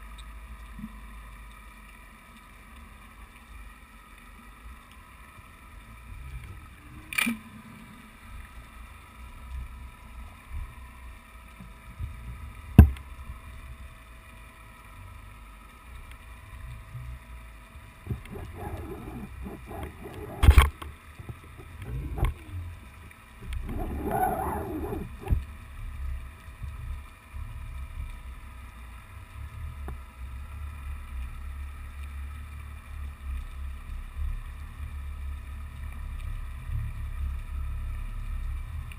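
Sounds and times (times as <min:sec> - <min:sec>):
faint hum: 0:00.0 - 0:38.9
underwater rumble of moving water: 0:00.0 - 0:38.9.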